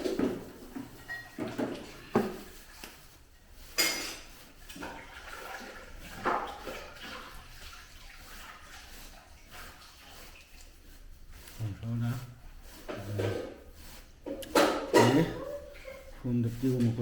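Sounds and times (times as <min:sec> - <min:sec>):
water being moved about: 0:00.0 - 0:17.0.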